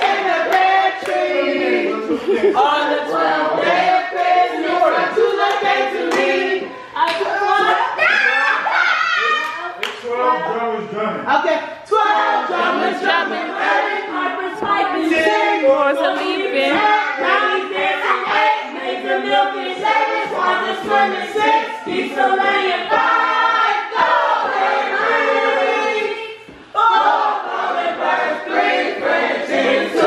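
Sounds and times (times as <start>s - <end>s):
choir singing unaccompanied: 0.0s - 9.2s, 11.8s - 30.0s.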